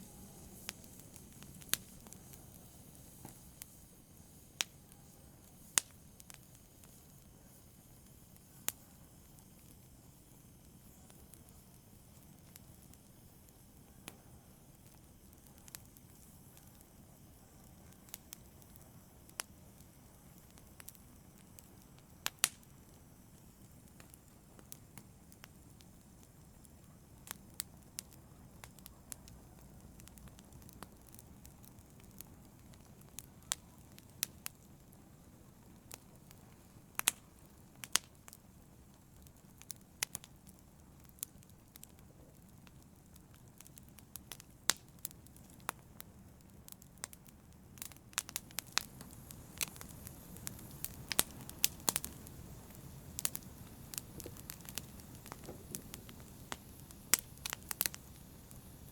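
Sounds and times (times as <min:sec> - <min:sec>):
low steady fire hiss: 0:00.0 - 0:58.9
wood fire crackling and popping: 0:00.0 - 0:58.9.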